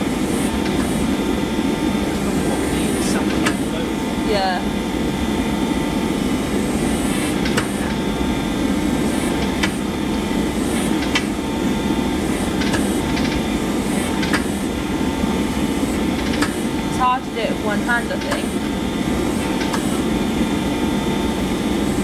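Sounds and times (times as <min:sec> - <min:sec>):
forging press drone: 0:00.0 - 0:22.0.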